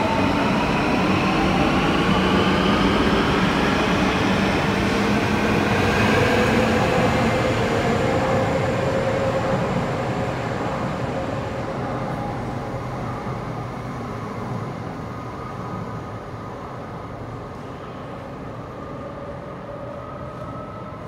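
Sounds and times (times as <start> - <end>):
train whine: 0.0 - 21.0.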